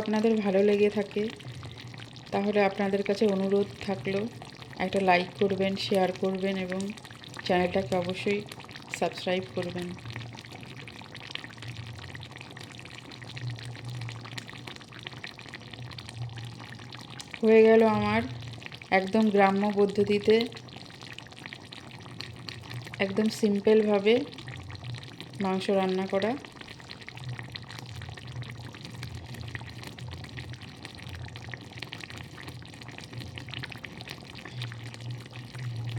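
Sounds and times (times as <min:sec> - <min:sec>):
curry sizzling in a pan: 0:00.0 - 0:35.9
gravy bubbling and popping: 0:00.0 - 0:35.9.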